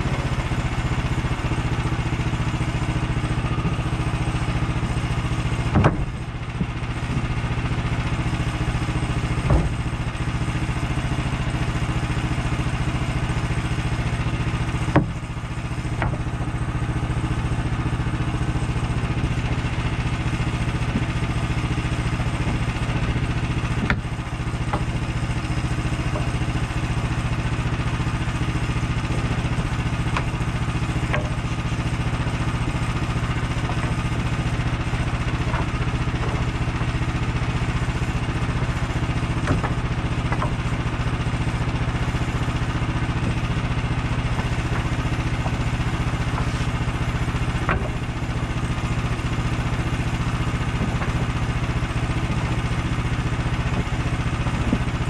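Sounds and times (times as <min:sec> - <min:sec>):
engine humming: 0:00.0 - 0:55.0
boards knocking on lumber stack: 0:00.2 - 0:55.0.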